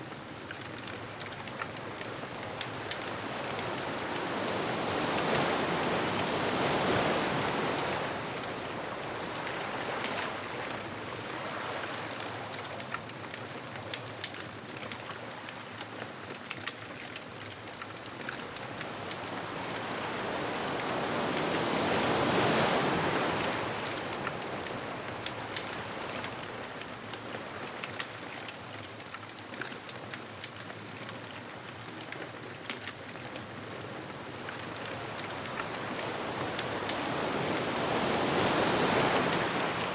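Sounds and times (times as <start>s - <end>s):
bonfire crackling: 0.0s - 39.9s
ocean waves breaking on beach: 0.0s - 39.9s.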